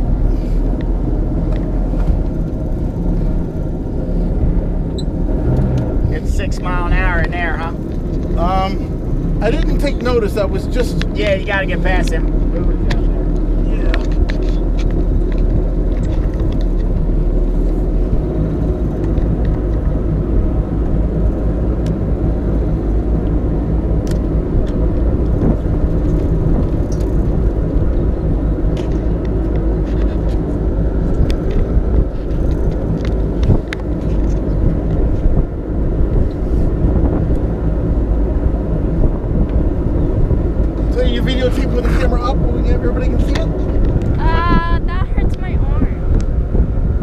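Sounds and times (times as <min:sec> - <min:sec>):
motorboat engine droning: 0:00.0 - 0:47.0
wind buffeting microphone: 0:00.0 - 0:47.0.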